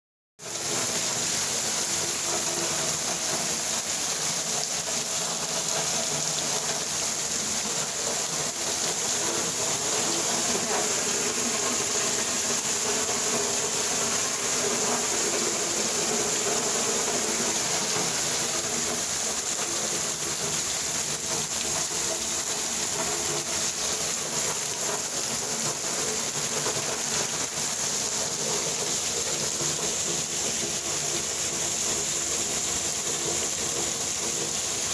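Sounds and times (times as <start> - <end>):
heavy rain pouring: 0.4 - 34.9.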